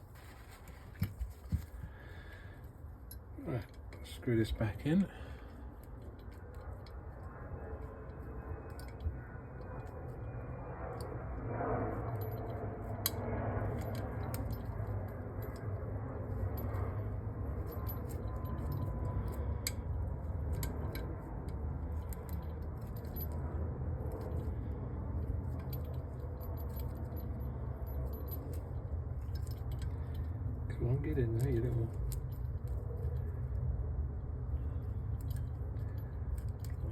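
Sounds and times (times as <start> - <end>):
steady low hum: 0.0 - 36.9
metal parts clicking and clinking: 3.0 - 10.2, 12.1 - 33.7, 34.6 - 36.9.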